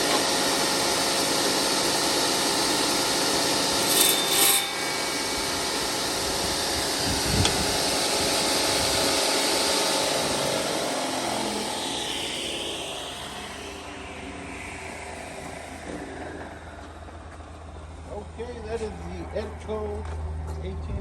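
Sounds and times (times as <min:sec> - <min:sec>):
concrete saw running: 0:00.0 - 0:19.5.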